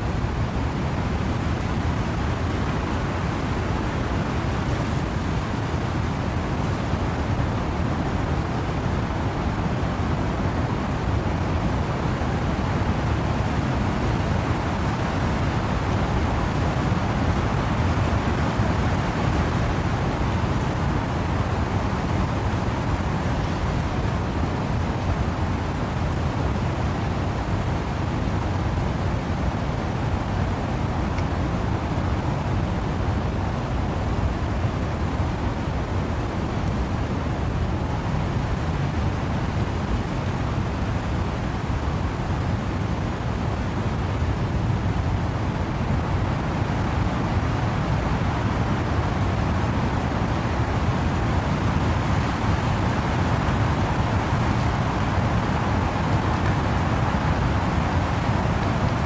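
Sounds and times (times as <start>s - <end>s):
wind and rain through trees: 0.0s - 59.0s.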